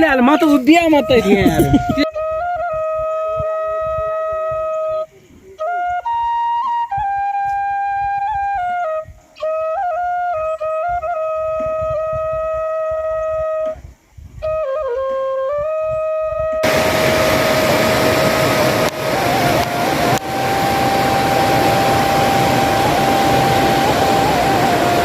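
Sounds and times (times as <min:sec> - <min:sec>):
flute playing slow melody: 0:00.3 - 0:25.0.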